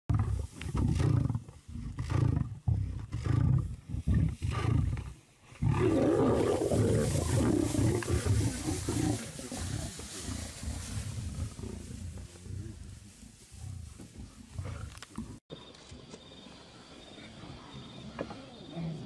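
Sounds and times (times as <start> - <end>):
lions growling and snarling: 0.1 - 15.4.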